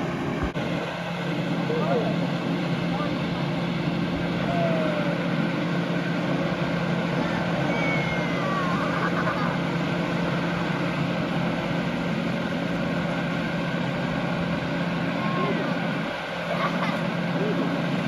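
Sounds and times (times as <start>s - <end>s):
motor hum: 0.0s - 18.0s.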